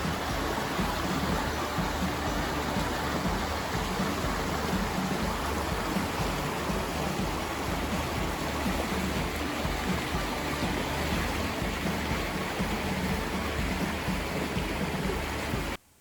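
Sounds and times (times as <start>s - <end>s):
river rushing over rapids: 0.0s - 15.8s.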